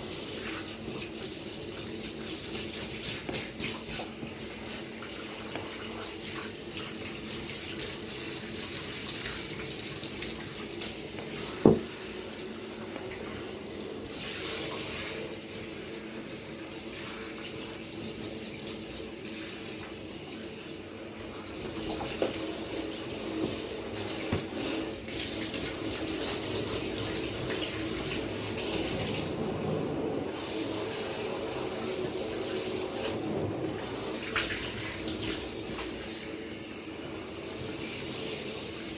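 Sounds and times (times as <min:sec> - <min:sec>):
tap water running into bath: 0:00.0 - 0:38.9.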